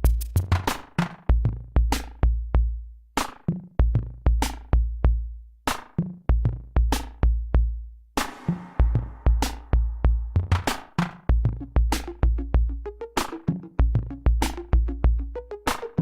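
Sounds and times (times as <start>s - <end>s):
electronic music with drum-machine beat: 0.0s - 5.1s, 8.2s - 16.0s.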